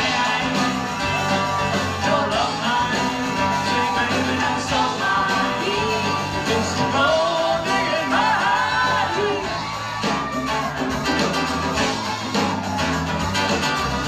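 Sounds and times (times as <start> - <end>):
rock band playing: 0.0 - 14.0
singer's voice: 0.0 - 14.0.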